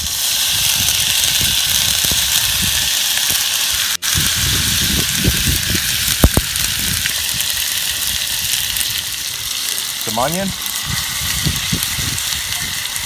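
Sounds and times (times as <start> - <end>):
oil sizzling in skillet: 0.0 - 13.0.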